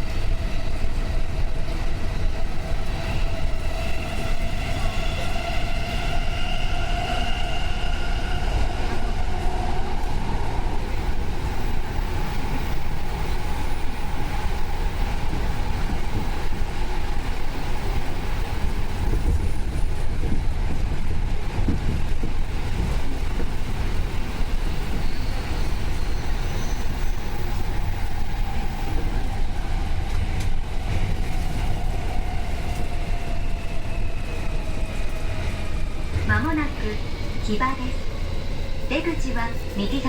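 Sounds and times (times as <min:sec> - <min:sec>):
subway train wheels rumbling on rail: 0:00.0 - 0:40.0.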